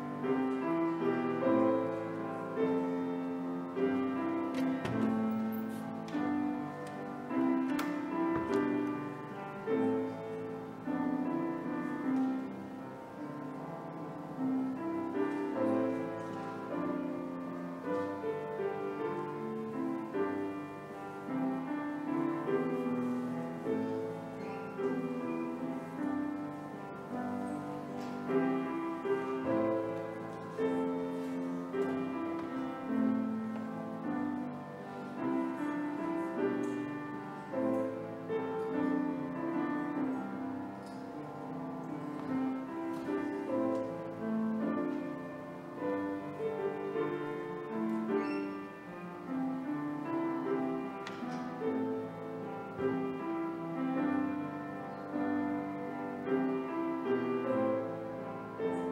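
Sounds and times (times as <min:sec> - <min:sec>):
slow piano music: 0:00.0 - 0:58.9.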